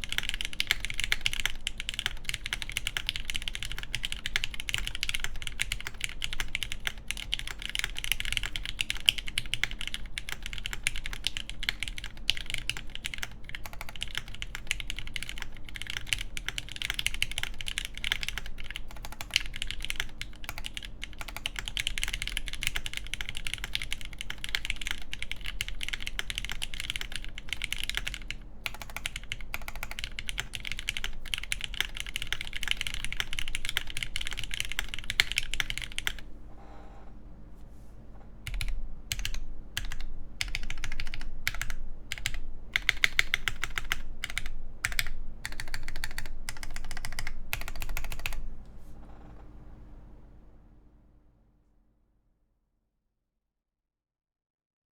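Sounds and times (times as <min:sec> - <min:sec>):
fast typing on mechanical keyboard: 0:00.0 - 0:36.2, 0:38.5 - 0:48.5.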